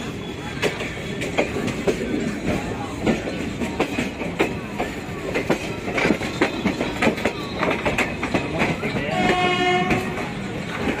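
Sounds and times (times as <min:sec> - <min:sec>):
steady train rumble: 0:00.0 - 0:11.0
train wheels clattering over joints: 0:00.0 - 0:11.0.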